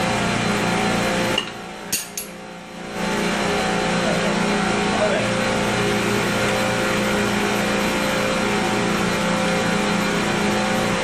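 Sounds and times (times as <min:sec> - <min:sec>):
pumps and machinery humming: 0:00.0 - 0:11.0.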